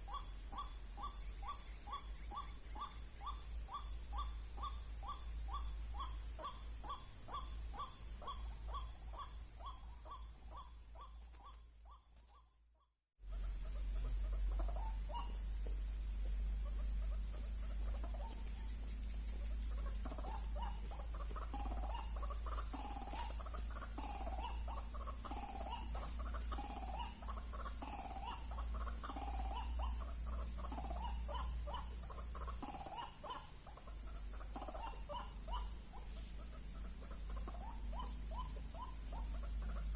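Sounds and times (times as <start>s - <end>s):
waterhen calls: 0.0s - 12.4s, 13.3s - 15.4s, 16.6s - 39.9s.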